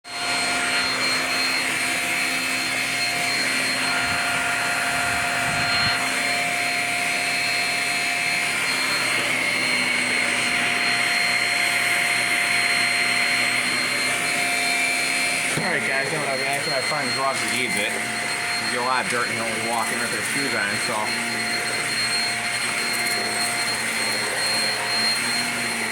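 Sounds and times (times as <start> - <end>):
vacuum cleaner motor whine: 0.0 - 25.9.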